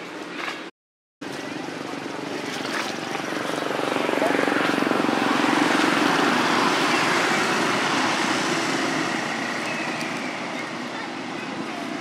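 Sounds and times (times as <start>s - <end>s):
motor engine passing by: 2.2s - 12.0s.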